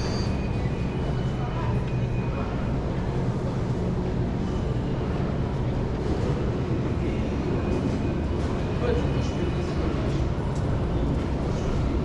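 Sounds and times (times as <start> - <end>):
low rumble of train station: 0.0 - 12.0.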